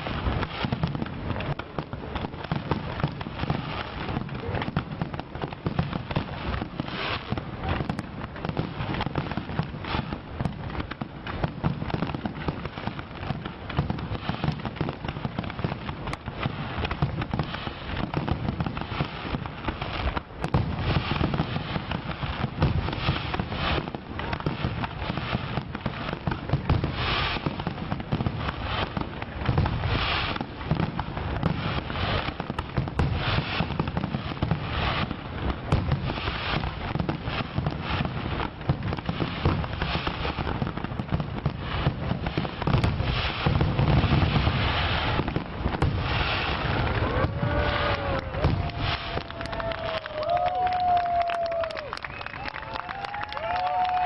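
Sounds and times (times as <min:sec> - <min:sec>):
fireworks bangs and crackling: 0:00.0 - 0:54.0
heavy firework bursts: 0:00.0 - 0:54.0.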